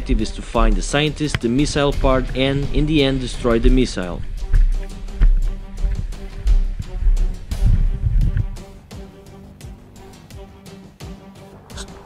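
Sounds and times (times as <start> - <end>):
music with heavy beat and deep bass: 0.0 - 12.0.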